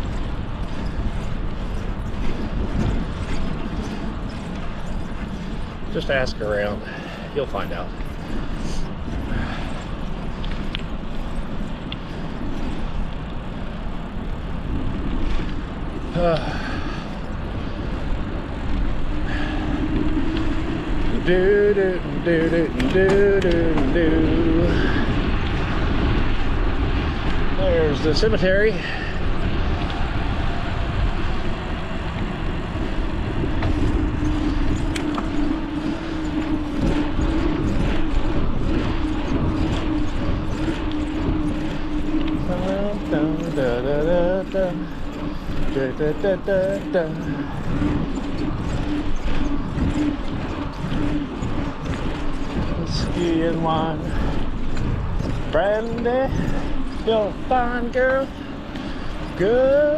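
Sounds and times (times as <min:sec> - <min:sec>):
bicycle tyre and road noise: 0:00.0 - 0:59.9
low steady hum: 0:00.0 - 0:59.9
wind rushing over microphone: 0:00.0 - 0:59.9.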